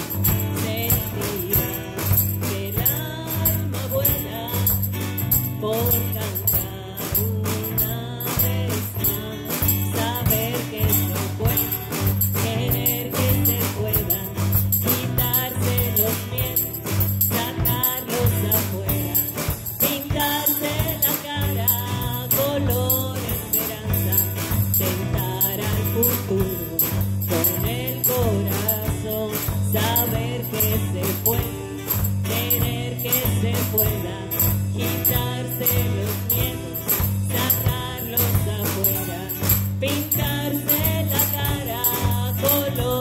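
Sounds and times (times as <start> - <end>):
small band playing live: 0.0 - 43.0
tambourine jingling: 0.0 - 43.0
woman singing: 0.0 - 43.0.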